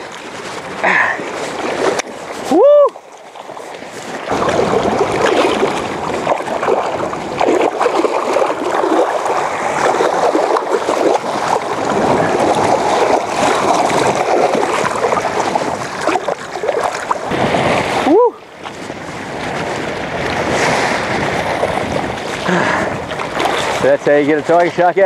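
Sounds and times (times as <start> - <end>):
water splashing against kayak: 0.0 - 25.0.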